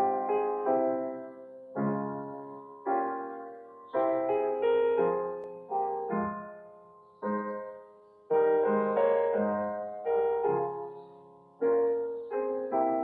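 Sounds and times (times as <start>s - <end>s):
slow solo piano chords: 0.0s - 13.0s.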